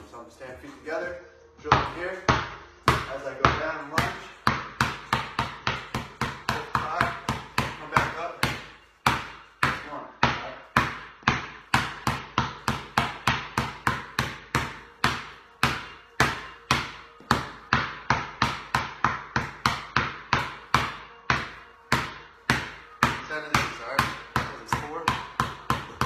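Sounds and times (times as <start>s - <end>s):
basketball bouncing on concrete: 1.7s - 26.0s.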